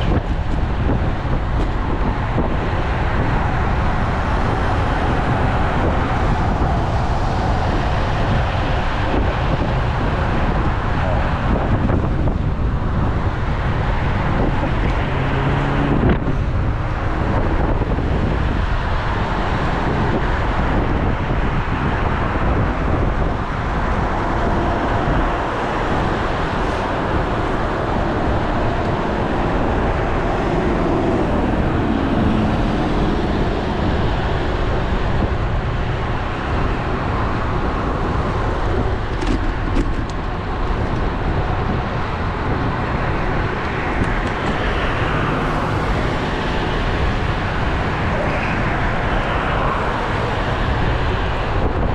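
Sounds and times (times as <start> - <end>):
cars passing: 0.0 - 51.9
wind noise on microphone: 0.0 - 51.9.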